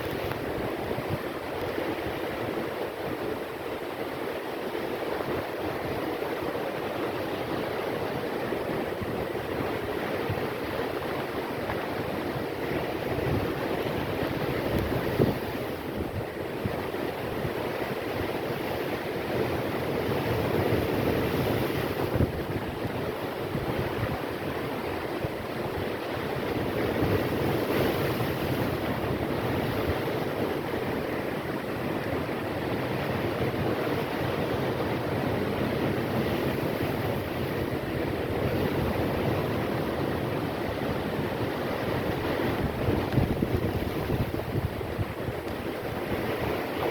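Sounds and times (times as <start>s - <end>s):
storm waves crashing: 4.7s - 46.9s
wind buffeting microphone: 4.7s - 46.9s.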